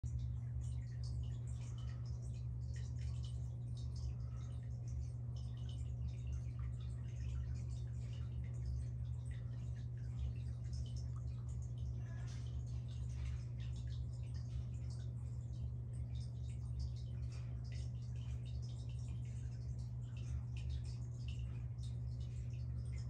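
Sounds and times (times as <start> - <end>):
aquarium equipment humming: 0.0 - 23.0
water ticks and drips: 0.0 - 23.0.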